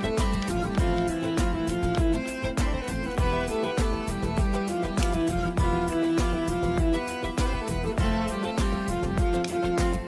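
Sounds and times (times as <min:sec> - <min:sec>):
drum rhythm: 0:00.0 - 0:10.0
plucked strings: 0:00.0 - 0:10.0.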